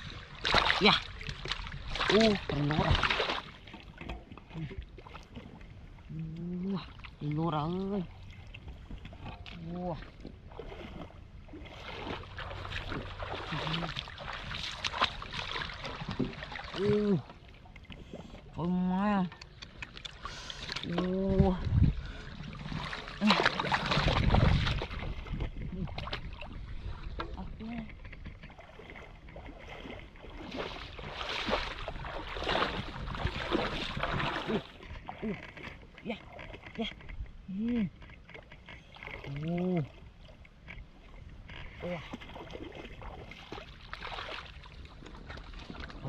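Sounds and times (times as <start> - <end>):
water splashing and sloshing: 0.0 - 46.0.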